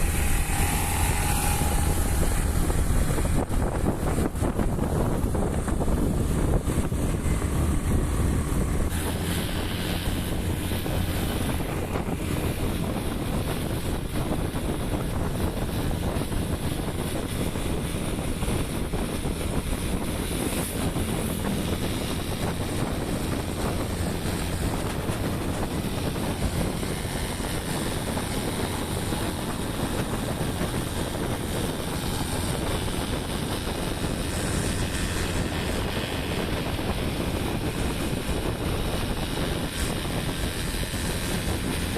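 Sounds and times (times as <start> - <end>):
motorbike engine and road noise: 0.0 - 41.9
wind buffeting microphone: 0.0 - 41.9.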